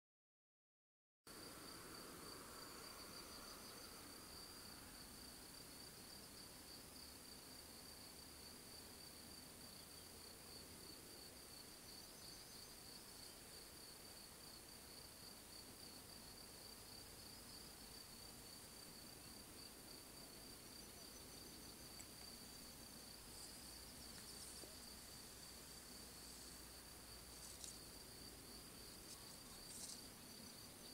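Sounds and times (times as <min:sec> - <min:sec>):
crickets chirring: 0:01.3 - 0:30.9.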